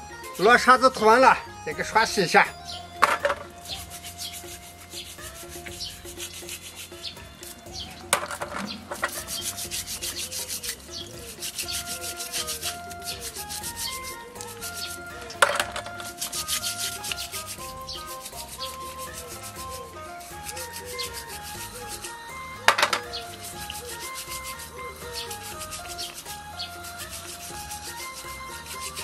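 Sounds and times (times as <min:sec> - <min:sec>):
brush scrubbing snail shells: 0:00.3 - 0:29.0.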